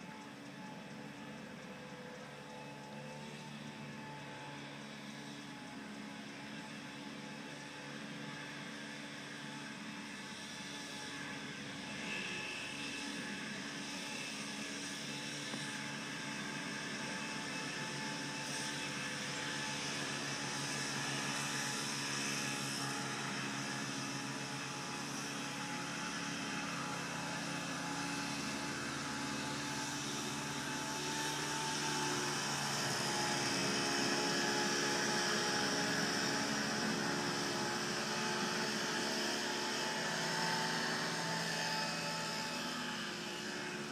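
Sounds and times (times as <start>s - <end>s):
steady engine drone: 0.0s - 43.9s.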